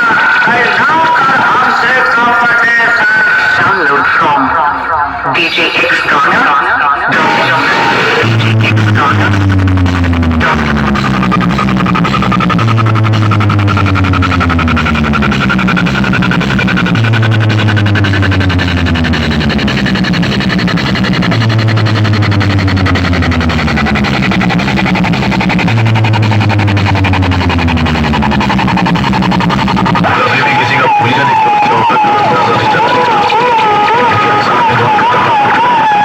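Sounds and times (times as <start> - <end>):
loud electronic dance music: 0.0 - 36.0.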